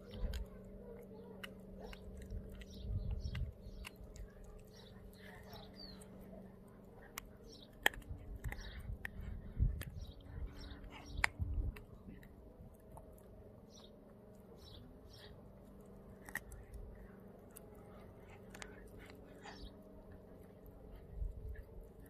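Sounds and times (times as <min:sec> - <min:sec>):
dog crunching and chewing: 0:00.0 - 0:22.0.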